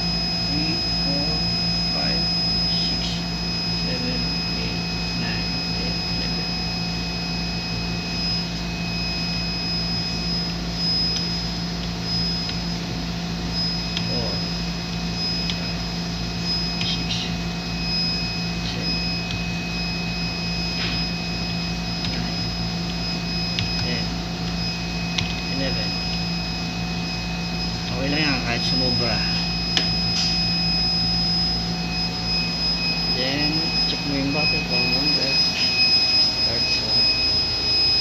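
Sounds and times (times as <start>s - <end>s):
equipment mechanical hum: 0.0s - 38.0s
high-pitched whine: 0.0s - 38.0s
lower whine: 0.0s - 38.0s.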